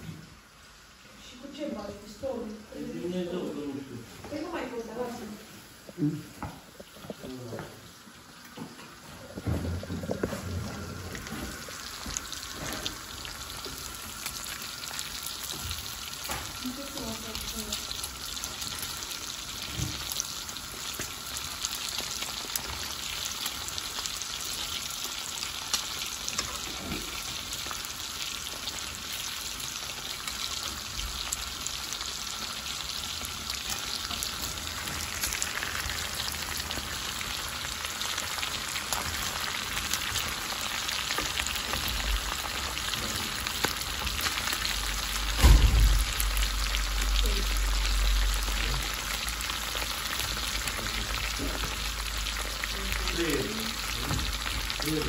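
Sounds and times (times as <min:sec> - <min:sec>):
meat sizzling in a pan: 0:00.0 - 0:55.0.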